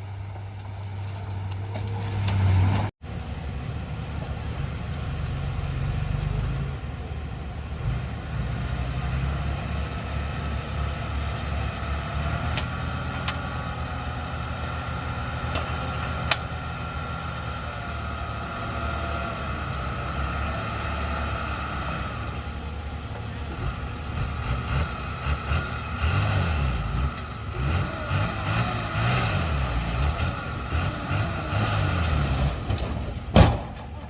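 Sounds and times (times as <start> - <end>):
heavy machine diesel engines: 0.0 - 34.0.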